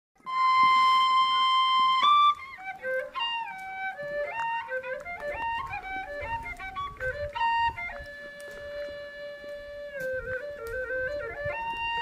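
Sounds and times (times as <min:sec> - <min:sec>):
solo flute melody: 0:00.2 - 0:12.0.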